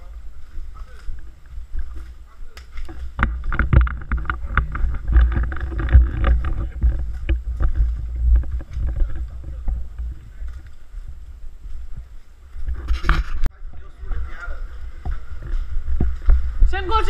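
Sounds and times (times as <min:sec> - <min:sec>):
low wind rumble on microphone: 0:00.0 - 0:17.0.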